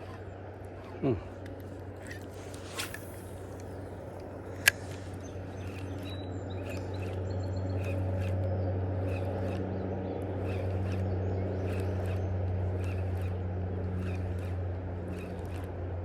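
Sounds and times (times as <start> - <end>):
fishing reel click: 0.0 - 15.7
fishing reel whirring and ticking: 0.0 - 16.0.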